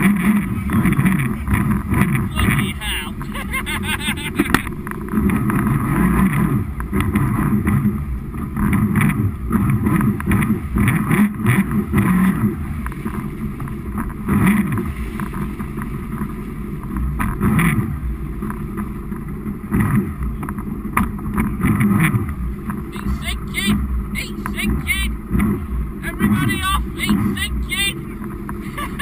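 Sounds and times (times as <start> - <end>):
jet ski engine running: 0.0 - 29.0
water churning and splashing: 0.0 - 29.0.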